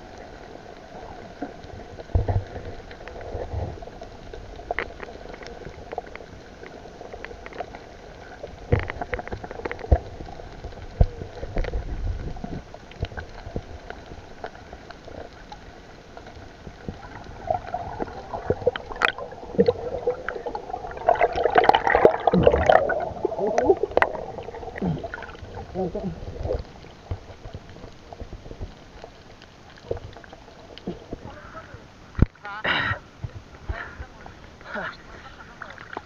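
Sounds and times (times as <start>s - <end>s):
bubbling and gurgling: 0.0s - 32.3s
muffled underwater hum: 0.0s - 36.0s.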